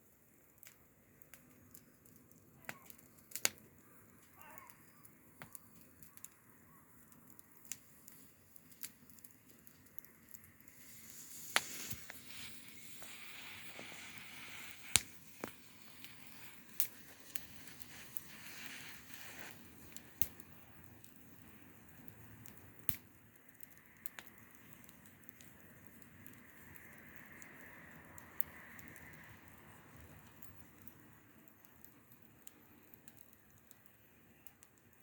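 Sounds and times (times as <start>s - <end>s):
campfire crackling: 0.0s - 35.0s
burning wood popping: 0.4s - 35.0s.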